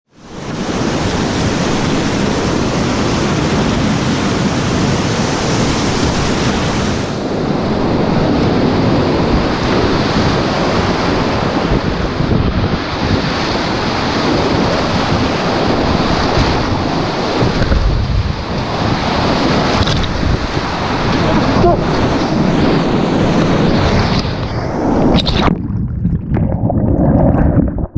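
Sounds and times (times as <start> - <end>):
wind buffeting microphone: 0.5 - 27.9.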